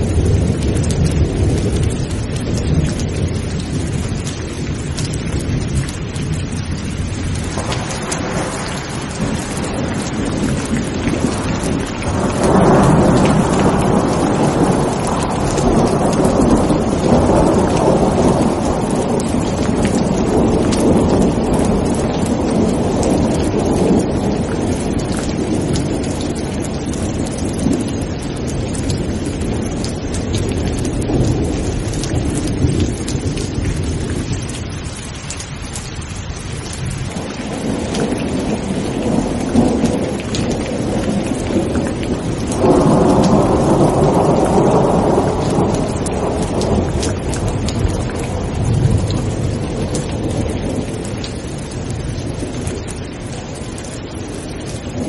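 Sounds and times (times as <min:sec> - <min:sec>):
steady rain: 0:00.0 - 0:55.0
thunder rumbling: 0:00.0 - 0:55.0.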